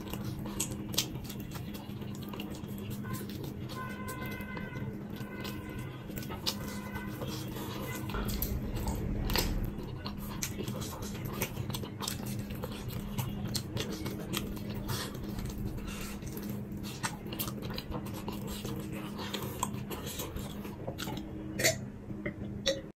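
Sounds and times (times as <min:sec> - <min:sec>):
wet chewing and teeth clicks: 0:00.0 - 0:22.8
low steady hum: 0:00.0 - 0:22.9.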